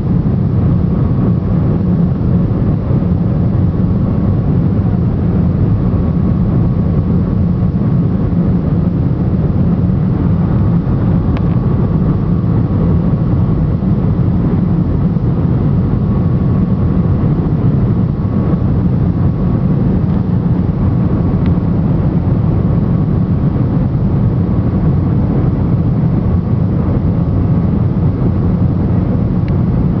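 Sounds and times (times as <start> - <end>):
faint steady whine: 0.0 - 30.0
jet engines droning: 0.0 - 30.0.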